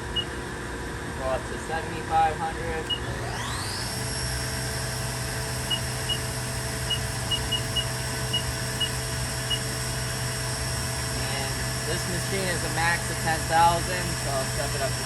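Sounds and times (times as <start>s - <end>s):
low hum: 0.0s - 15.0s
machine spindle high whine: 0.0s - 15.0s.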